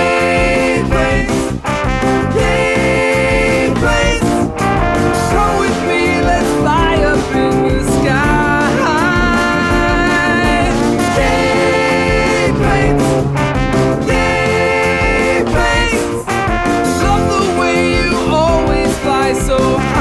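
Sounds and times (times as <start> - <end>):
swing band tune with horns: 0.0 - 20.0.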